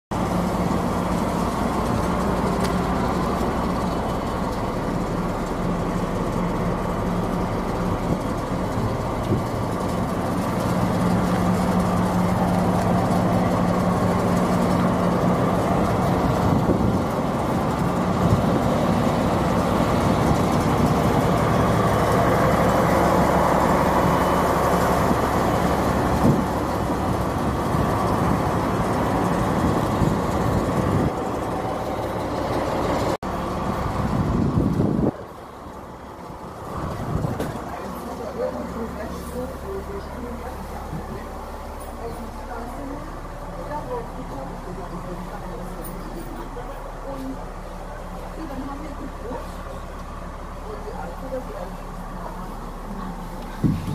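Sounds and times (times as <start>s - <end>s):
locomotive engine idling: 0.1s - 53.9s.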